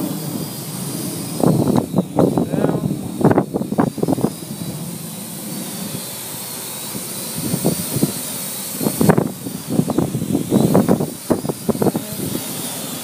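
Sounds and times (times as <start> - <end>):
quadcopter drone whining in flight: 0.0 - 13.0.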